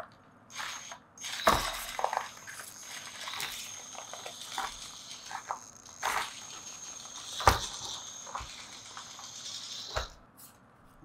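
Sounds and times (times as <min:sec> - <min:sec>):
high-pitched motor whine: 0:00.5 - 0:10.2.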